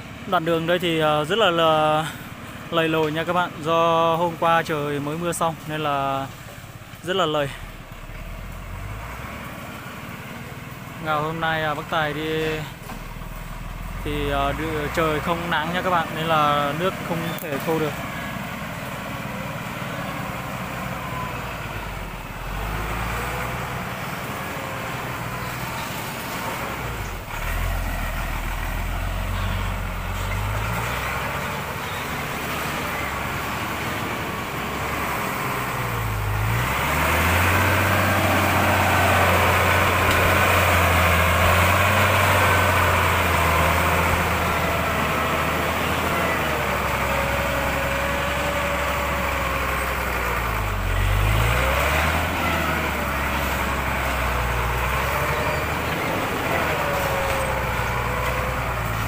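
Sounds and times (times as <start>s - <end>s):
truck engine running under load: 0.0s - 59.0s.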